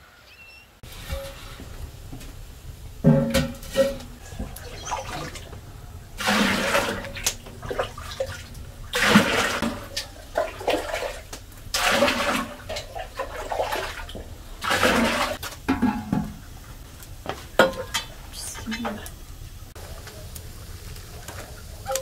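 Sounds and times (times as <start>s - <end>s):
hot liquid pouring and splashing: 0.8s - 22.0s.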